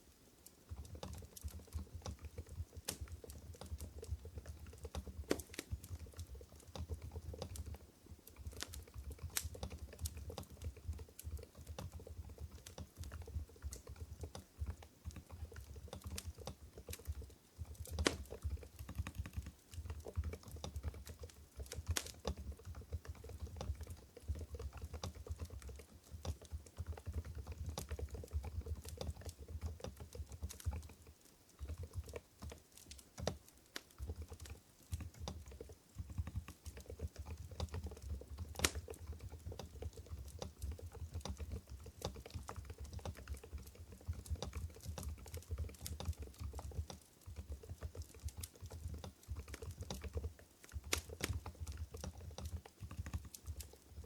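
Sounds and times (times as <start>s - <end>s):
soft muted keyboard typing: 0.0s - 54.0s.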